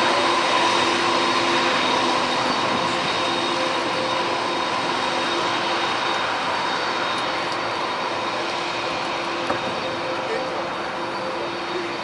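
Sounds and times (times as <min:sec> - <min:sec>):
jet engines whining hiss: 0:00.0 - 0:12.0.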